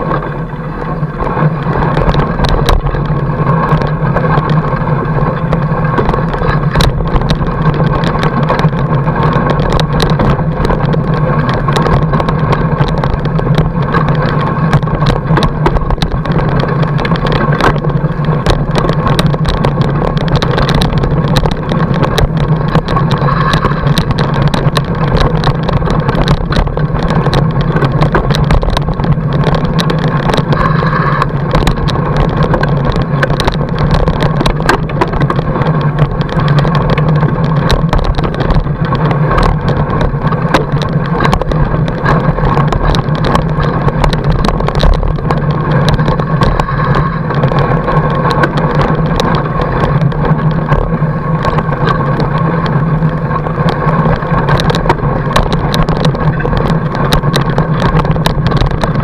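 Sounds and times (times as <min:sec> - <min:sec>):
bike clicks and rattles: 0:00.0 - 0:59.0
bike tyres rolling on snow: 0:00.0 - 0:59.0.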